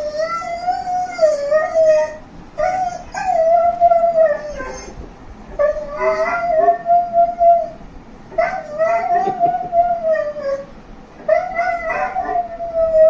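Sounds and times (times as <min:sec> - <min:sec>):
dog howling: 0:00.0 - 0:13.0.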